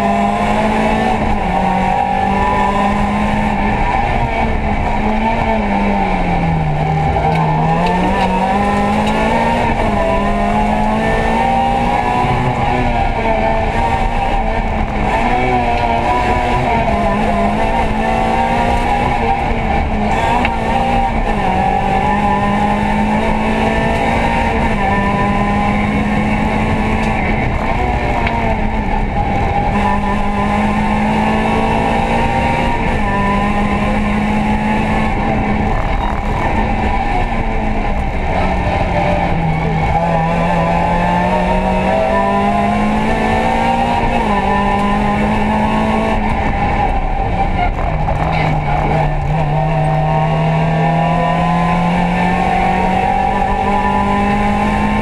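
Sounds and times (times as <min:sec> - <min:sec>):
rally car engine revving: 0:00.0 - 0:55.0
road and tyre noise: 0:00.0 - 0:55.0.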